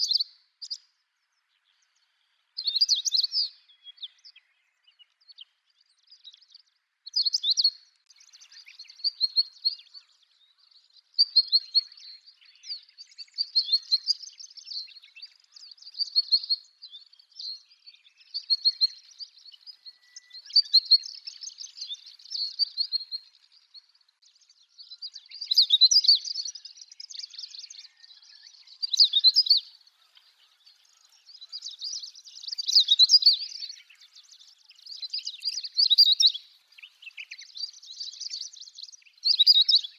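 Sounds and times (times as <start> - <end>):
finch singing twittering phrases: 0.0 - 39.9.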